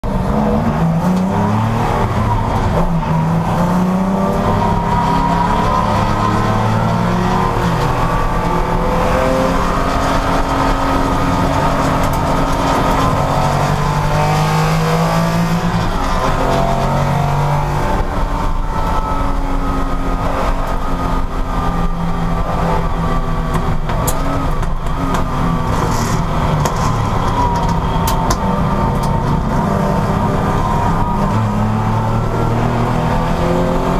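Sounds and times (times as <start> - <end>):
racing car engines revving: 0.0 - 33.9.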